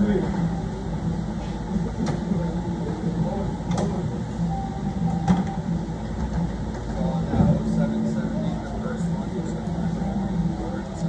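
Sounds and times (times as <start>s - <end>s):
repair shop hum: 0.0s - 11.0s.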